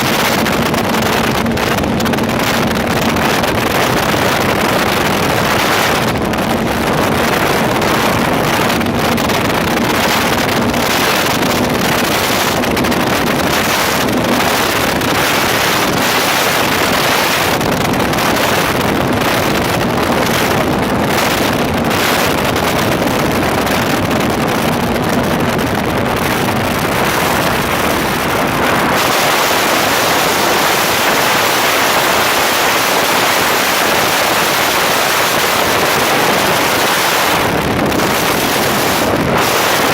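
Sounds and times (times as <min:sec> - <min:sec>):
rushing water: 0:00.0 - 0:39.9
speedboat engine drone: 0:00.0 - 0:39.9
wind noise on microphone: 0:00.0 - 0:39.9.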